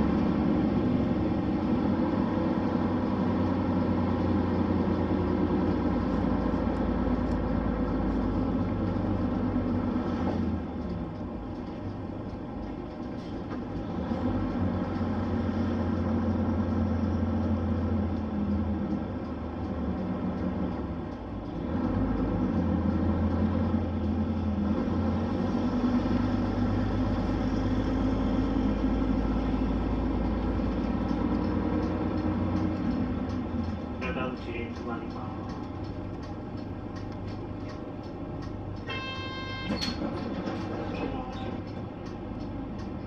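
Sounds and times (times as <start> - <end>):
bus diesel engine running: 0.0 - 43.0.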